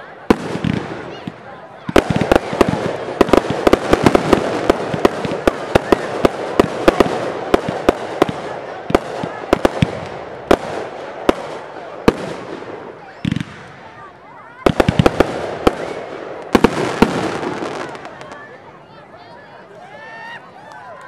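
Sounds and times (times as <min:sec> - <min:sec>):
fireworks bangs: 0:00.0 - 0:18.6.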